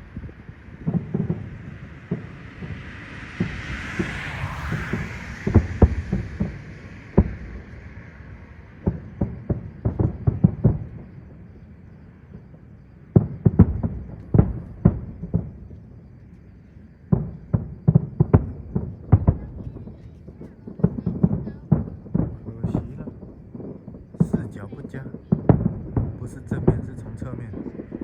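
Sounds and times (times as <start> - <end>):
fireworks booming: 0.0 - 28.0.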